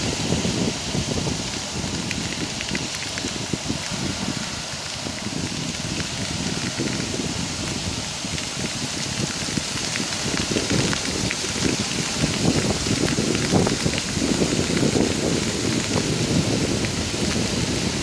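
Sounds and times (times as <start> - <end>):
heavy rain: 0.0 - 18.0
wind buffeting microphone: 0.0 - 18.0.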